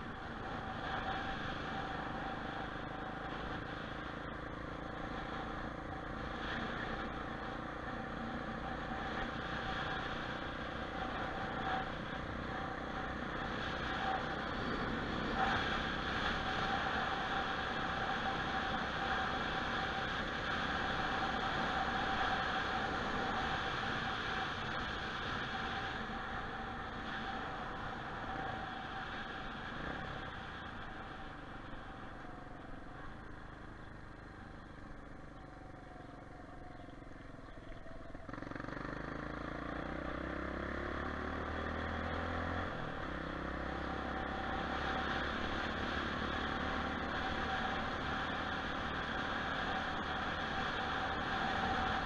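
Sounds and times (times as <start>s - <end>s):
motorcycle engine riding: 0.0s - 52.0s.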